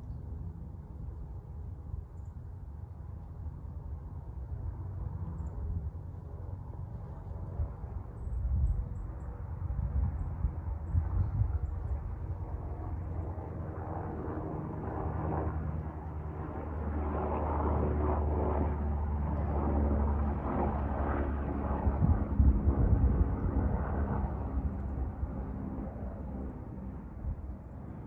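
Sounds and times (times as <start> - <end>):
aircraft flying over: 0.0 - 28.0.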